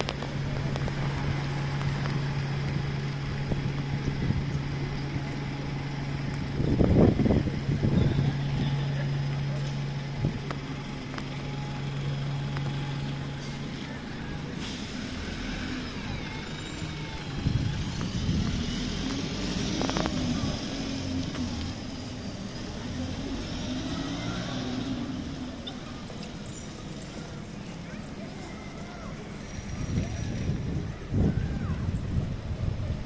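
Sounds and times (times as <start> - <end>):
buses passing close by: 0.0 - 33.0
street traffic: 0.0 - 33.0.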